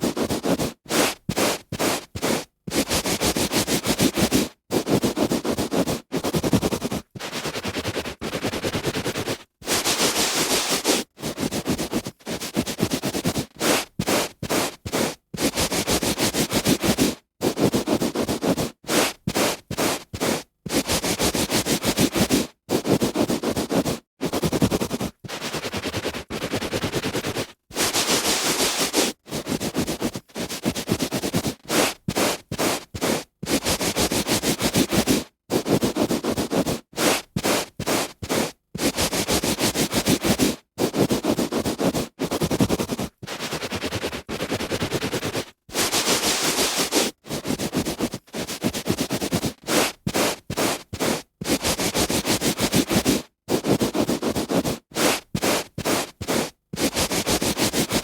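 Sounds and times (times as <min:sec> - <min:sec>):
hand rubbing on carpet: 0:00.0 - 0:58.0.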